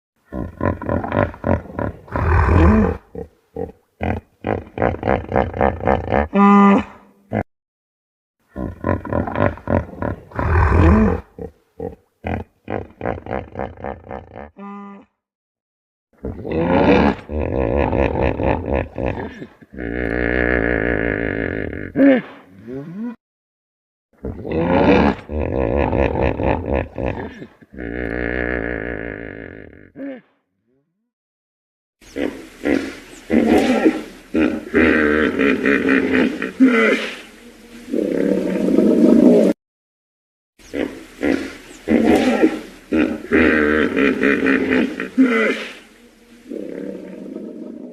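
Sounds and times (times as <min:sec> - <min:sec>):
hippopotamus grunting and bellowing: 0:00.3 - 0:07.4, 0:08.5 - 0:14.8, 0:16.2 - 0:23.2, 0:24.2 - 0:30.3, 0:32.1 - 0:39.6, 0:40.6 - 0:47.7.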